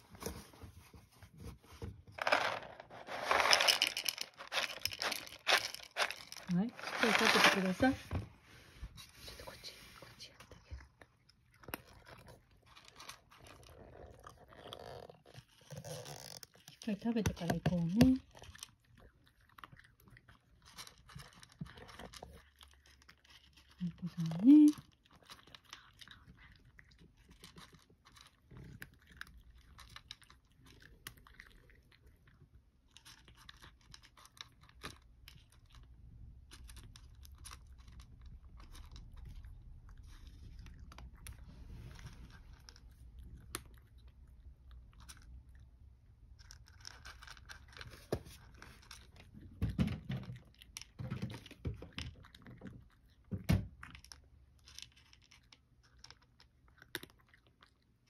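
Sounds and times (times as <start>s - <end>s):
cat crunching dry kibble: 1.2s - 8.1s, 8.7s - 58.0s.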